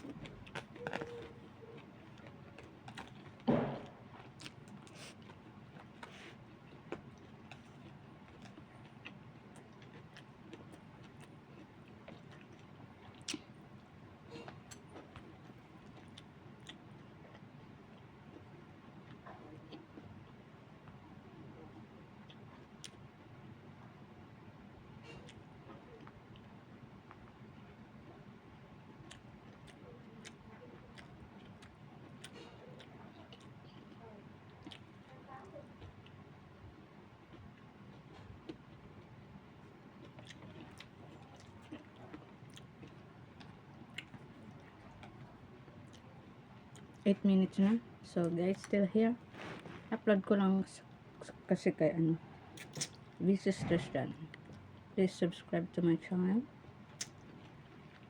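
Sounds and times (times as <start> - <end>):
person chewing food: 0.0 - 24.0, 24.9 - 47.1, 52.5 - 53.2, 56.8 - 58.0
soft eating clicks: 0.0 - 24.0, 25.0 - 47.3, 56.8 - 58.0
low background hum: 0.0 - 58.0.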